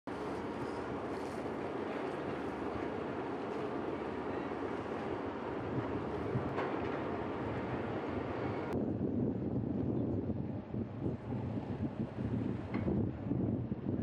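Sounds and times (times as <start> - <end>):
ship low rumble: 0.1 - 14.0.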